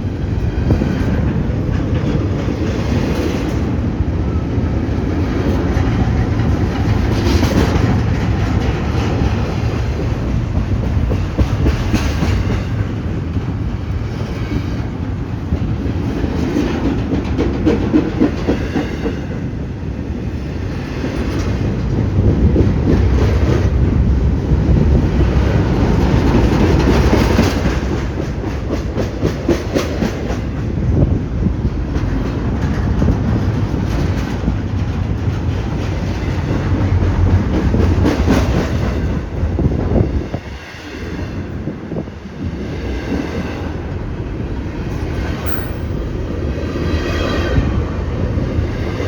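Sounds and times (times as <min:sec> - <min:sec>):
freight train rumbling past: 0:00.0 - 0:49.0.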